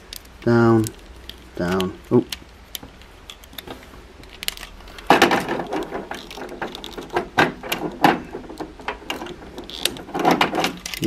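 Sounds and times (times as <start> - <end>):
plastic toy joints clicking: 0.0 - 11.0.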